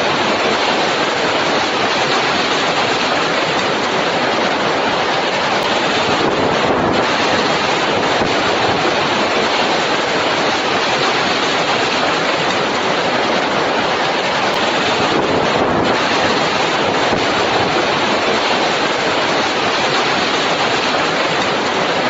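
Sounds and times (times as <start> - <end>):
strong storm wind blowing: 0.0 - 22.0.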